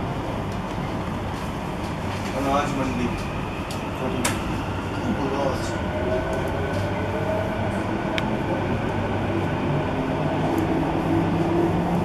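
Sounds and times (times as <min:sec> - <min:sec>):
train running rumble and hum: 0:00.0 - 0:12.0.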